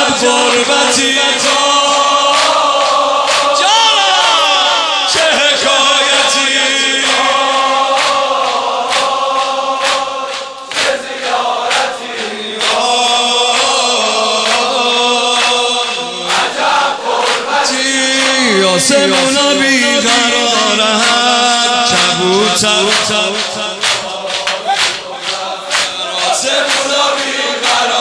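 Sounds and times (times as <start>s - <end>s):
steady beat: 0.0s - 13.7s, 15.4s - 28.0s
mourning chant: 0.0s - 28.0s.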